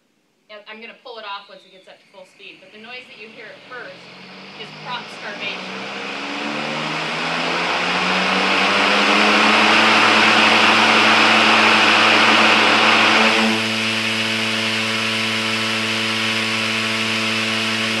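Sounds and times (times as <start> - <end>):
electric fan rushing noise: 2.5 - 18.0.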